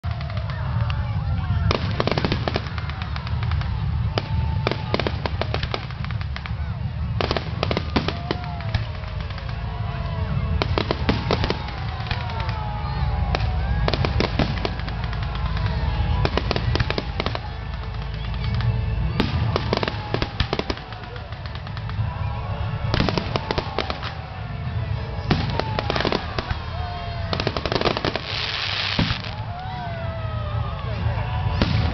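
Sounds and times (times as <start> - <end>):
fireworks bursting and crackling: 0.0 - 31.9.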